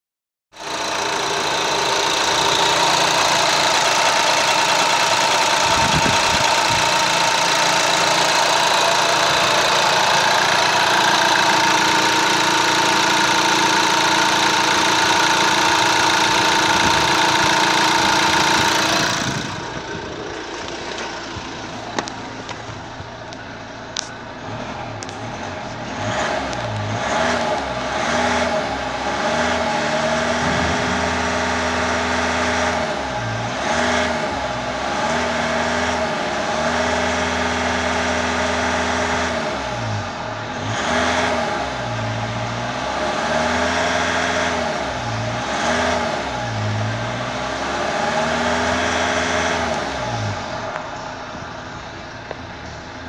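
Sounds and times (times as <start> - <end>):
diesel engine revving: 0.6 - 53.0.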